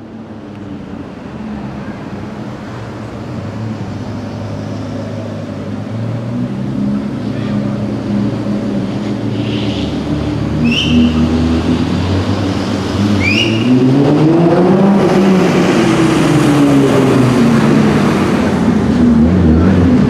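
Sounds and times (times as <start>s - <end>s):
car engine revving: 1.1s - 20.0s.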